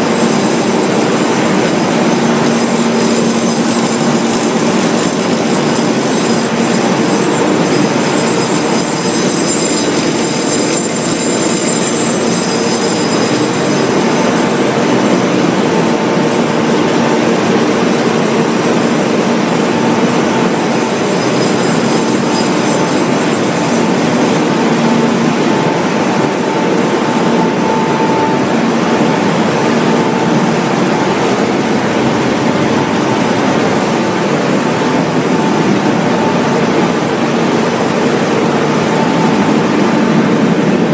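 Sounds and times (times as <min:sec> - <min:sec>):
high machine whine: 0:00.0 - 0:40.9
industrial machinery din: 0:00.0 - 0:40.9.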